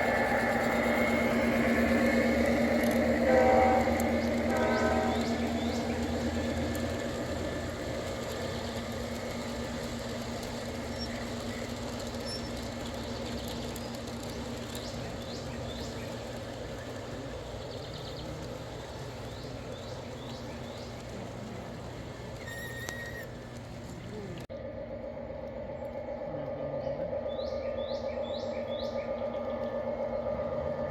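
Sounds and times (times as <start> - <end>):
model train mechanical hum: 0.0 - 30.9.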